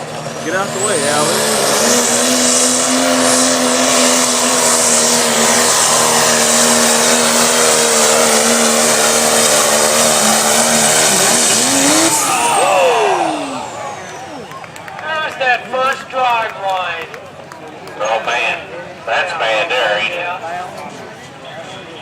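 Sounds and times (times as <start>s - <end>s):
diesel truck engine at full throttle: 0.0s - 20.7s.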